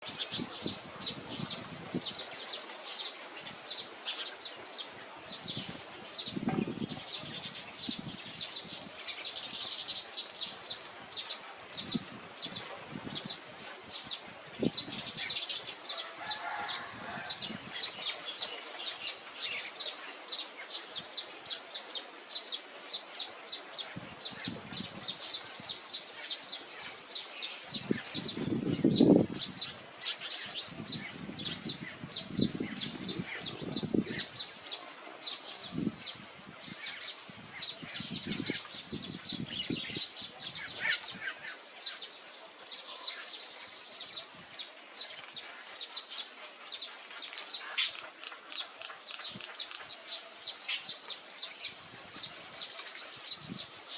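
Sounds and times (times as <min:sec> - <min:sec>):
weaver birds chirping: 0:00.0 - 0:53.9.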